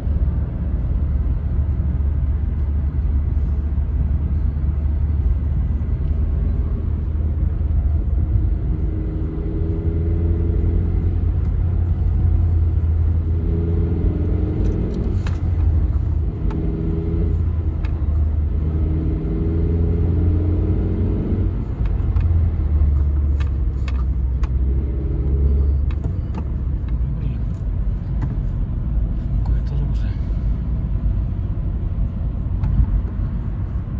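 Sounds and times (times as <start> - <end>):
car engine driving: 0.0 - 33.9.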